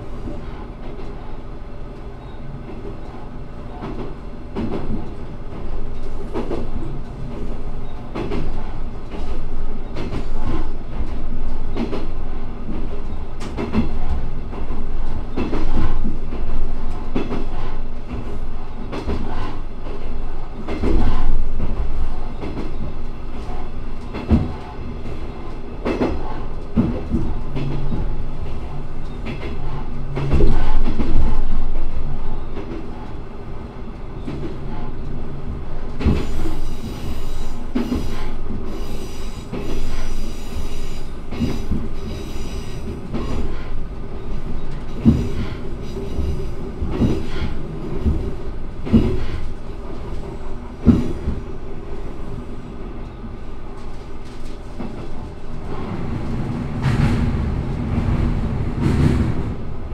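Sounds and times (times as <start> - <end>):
railcar engine and running hum: 0.0 - 59.9.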